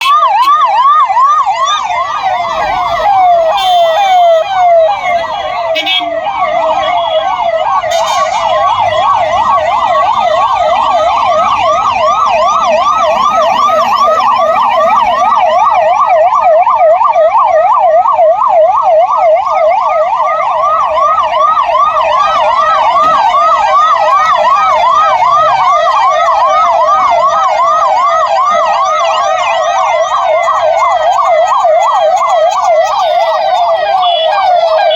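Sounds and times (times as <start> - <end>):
emergency siren yelping: 0.0 - 34.9.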